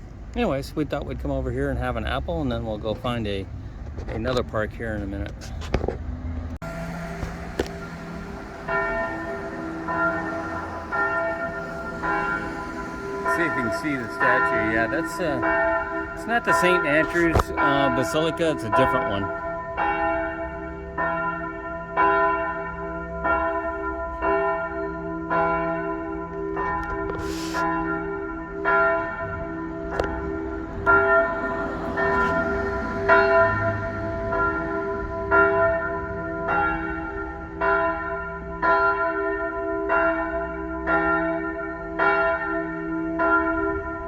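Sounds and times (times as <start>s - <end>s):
church bells ringing: 6.6s - 44.0s.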